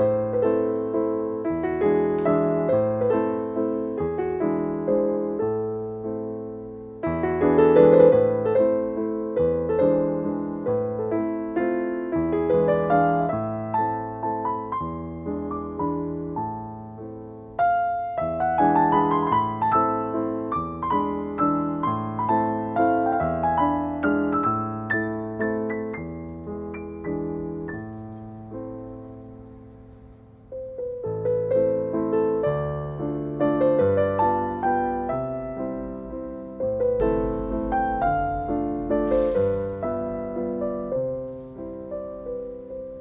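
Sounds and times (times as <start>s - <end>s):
soft solo piano: 0.0s - 43.0s.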